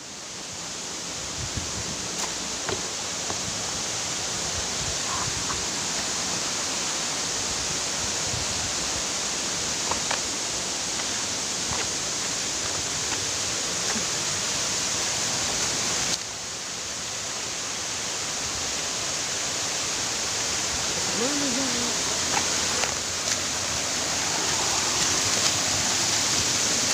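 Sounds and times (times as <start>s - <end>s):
waterfall roaring: 0.0s - 26.9s.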